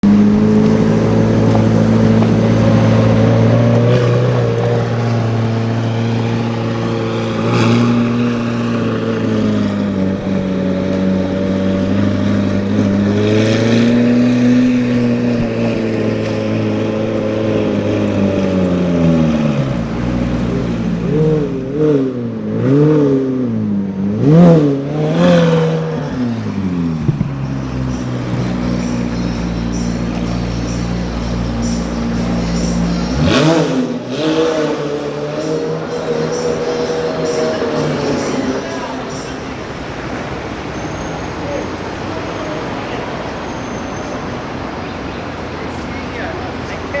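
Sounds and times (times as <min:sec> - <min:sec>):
sports car engine revving: 0:00.0 - 0:47.0.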